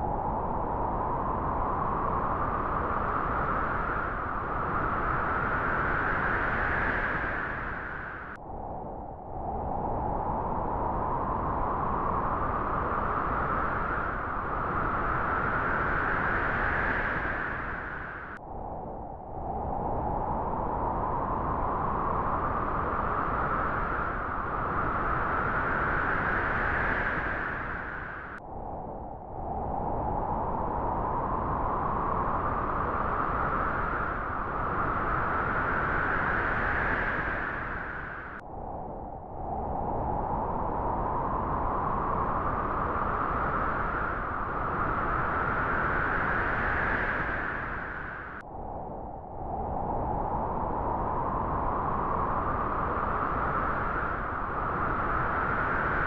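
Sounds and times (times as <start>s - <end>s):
wind blowing through grass: 0.0s - 56.0s.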